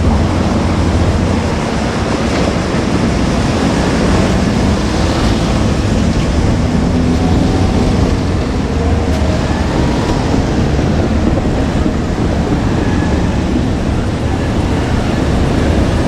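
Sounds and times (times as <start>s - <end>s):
diesel train passing close: 0.0s - 16.0s.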